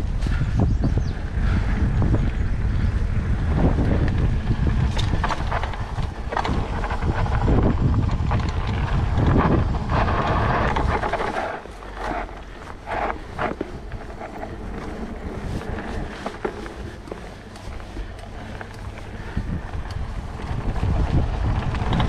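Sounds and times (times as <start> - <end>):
bike rattling and knocking: 0.0 - 22.0
bike tyres on dirt: 0.0 - 22.0
wind rumbling on microphone: 0.0 - 22.0.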